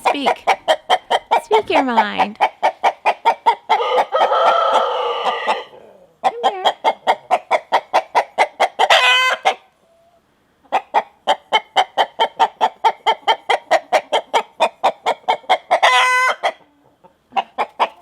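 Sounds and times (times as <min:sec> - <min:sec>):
rooster cackling: 0:00.0 - 0:18.0.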